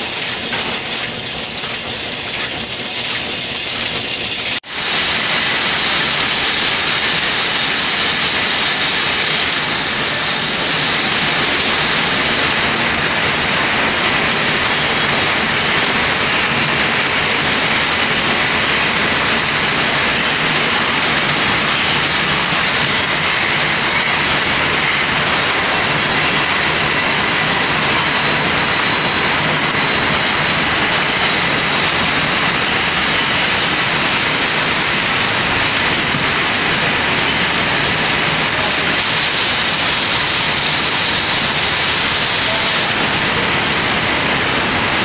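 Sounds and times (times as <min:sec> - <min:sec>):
machines clattering: 0:00.0 - 0:45.0.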